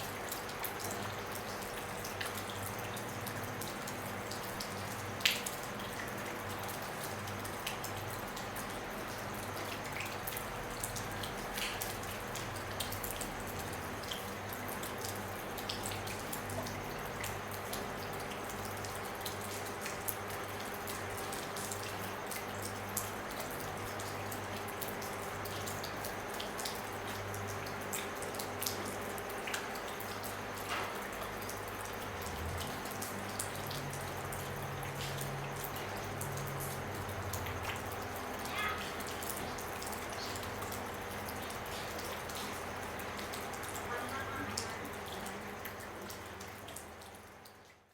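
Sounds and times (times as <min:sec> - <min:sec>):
rain on a roof: 0:00.0 - 0:47.9.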